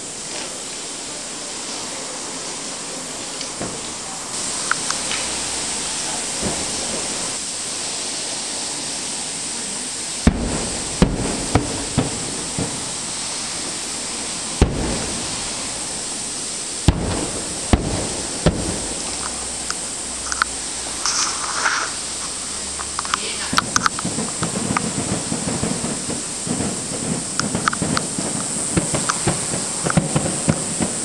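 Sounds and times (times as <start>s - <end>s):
steady hiss: 0.0s - 31.0s
firework shells bursting: 3.0s - 31.0s.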